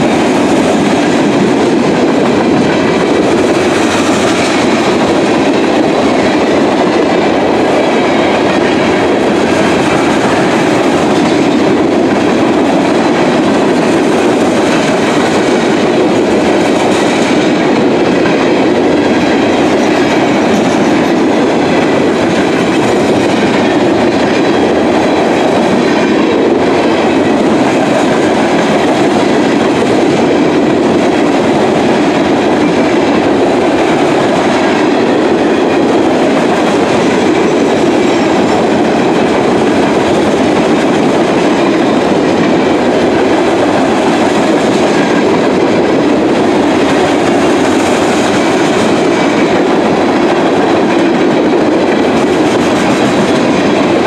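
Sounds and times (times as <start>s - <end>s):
freight train wheels rolling: 0.0s - 54.0s.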